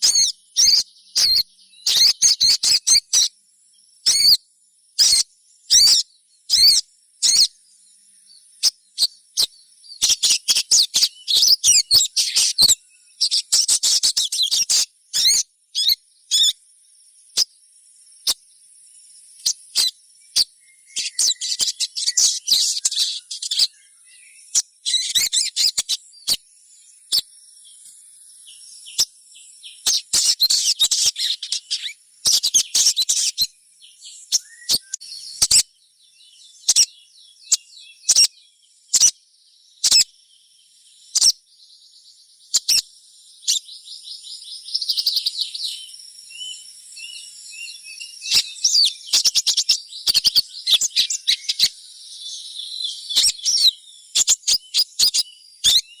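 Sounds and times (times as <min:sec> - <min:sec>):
young bird chirping: 0:00.0 - 0:03.3, 0:04.0 - 0:04.4, 0:05.0 - 0:16.6, 0:17.2 - 0:17.6, 0:19.4 - 0:39.2, 0:39.8 - 0:40.1, 0:41.0 - 0:41.4, 0:42.4 - 0:56.0.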